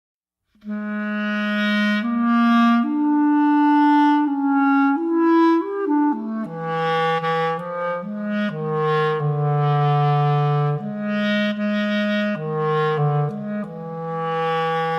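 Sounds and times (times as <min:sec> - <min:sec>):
solo woodwind melody: 0:00.6 - 0:14.9.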